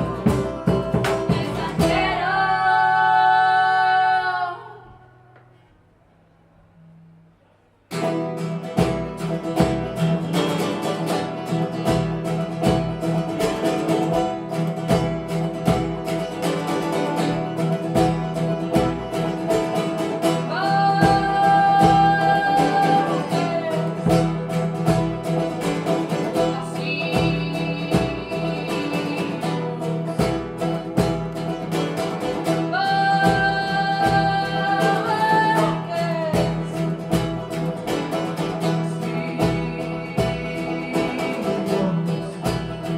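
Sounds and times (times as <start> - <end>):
plucked guitar: 0.0 - 5.7, 6.8 - 42.9.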